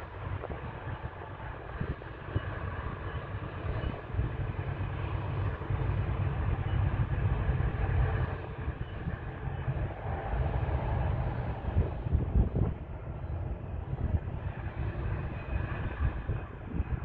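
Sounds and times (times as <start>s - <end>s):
distant freight train rumble: 0.0s - 17.0s.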